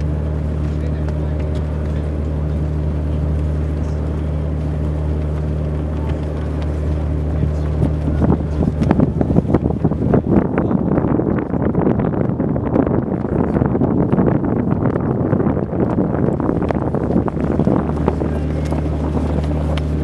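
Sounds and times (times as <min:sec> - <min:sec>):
boat engine droning: 0:00.0 - 0:20.0
wind buffeting microphone: 0:00.0 - 0:20.0.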